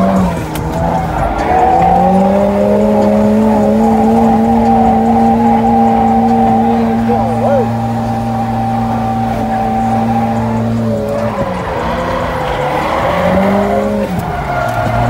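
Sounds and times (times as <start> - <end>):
car engine at high revs: 0.0 - 15.0
tyres squealing: 0.0 - 15.0.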